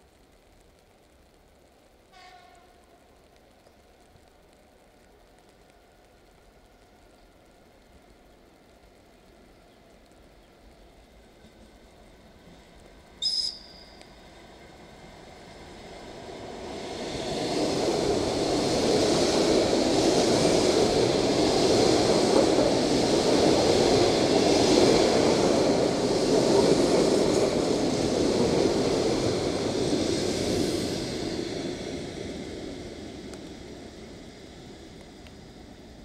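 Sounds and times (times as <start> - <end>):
train wheels rushing on rails: 1.7 - 36.0.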